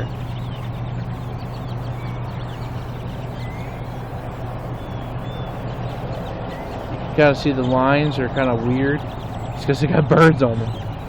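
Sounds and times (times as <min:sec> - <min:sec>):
flock of birds chirping: 0:00.0 - 0:11.0
steady low hum: 0:00.0 - 0:11.0.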